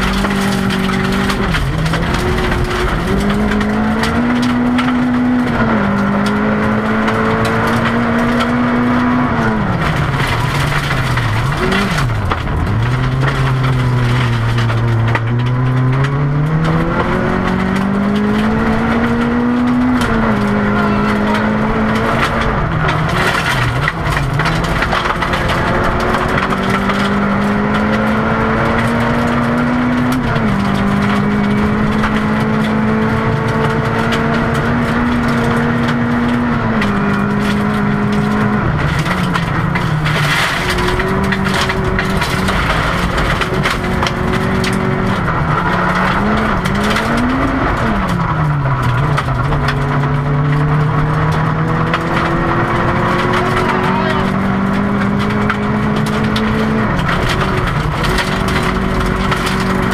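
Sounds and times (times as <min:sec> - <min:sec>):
rally car engine revving: 0:00.0 - 0:59.9
stones hitting car: 0:00.0 - 0:59.9
tyres on gravel: 0:00.0 - 0:59.9.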